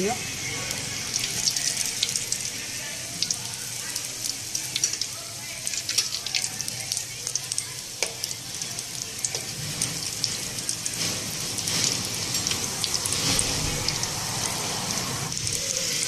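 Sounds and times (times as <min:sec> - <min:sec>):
cutlets sizzling in hot oil: 0:00.0 - 0:16.0.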